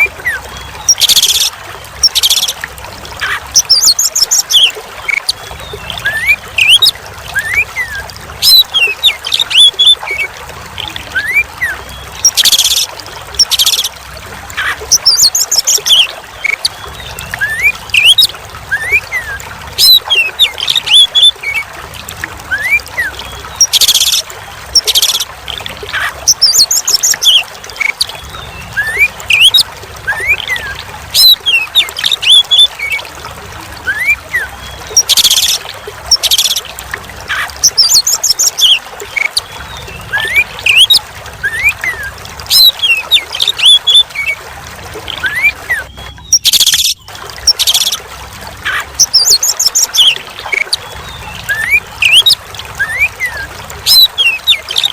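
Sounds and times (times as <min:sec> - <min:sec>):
trickle of running water: 0:00.0 - 0:54.9.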